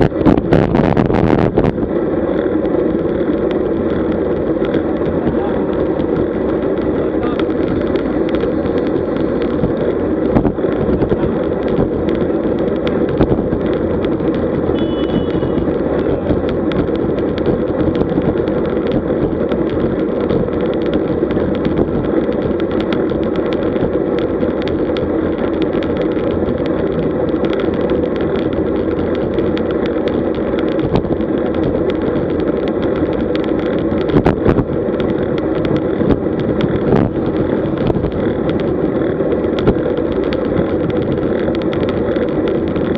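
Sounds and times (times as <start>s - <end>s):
bike road noise: 0.0s - 42.9s
rushing wind: 0.0s - 42.9s
small knocks from road surface: 2.6s - 42.9s.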